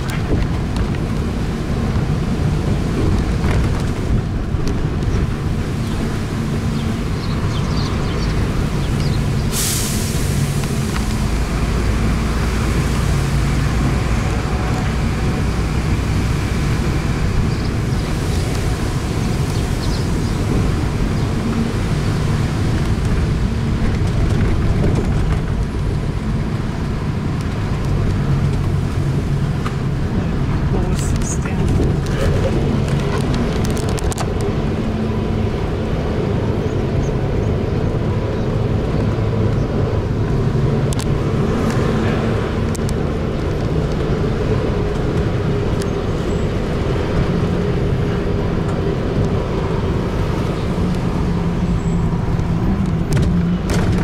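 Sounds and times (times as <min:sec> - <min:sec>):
bus engine running: 0:00.0 - 0:54.0
road and air noise: 0:00.0 - 0:54.0.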